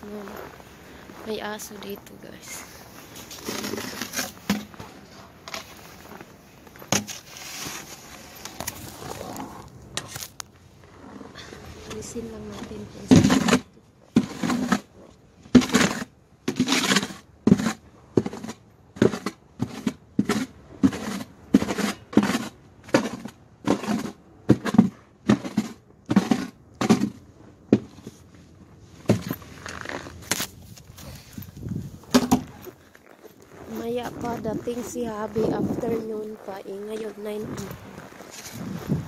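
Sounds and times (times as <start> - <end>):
snow shovel scraping pavement: 0.0 - 39.0.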